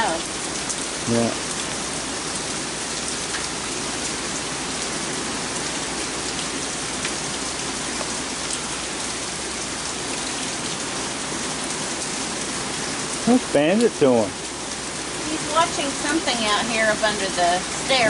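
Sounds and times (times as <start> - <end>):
water drips ticking: 0.0 - 4.9, 5.5 - 10.9, 11.5 - 18.0
heavy rain pouring: 0.0 - 18.0.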